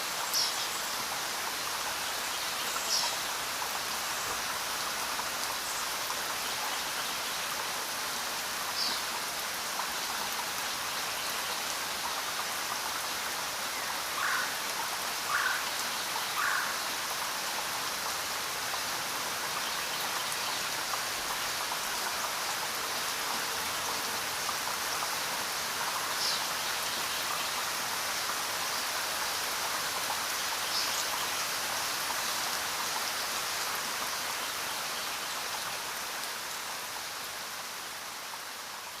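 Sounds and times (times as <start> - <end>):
louder raindrops: 0.0 - 39.0
rain falling: 0.0 - 39.0.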